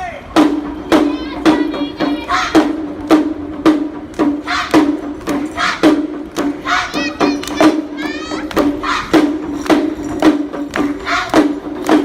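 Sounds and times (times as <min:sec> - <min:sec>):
drum beating: 0:00.2 - 0:12.0.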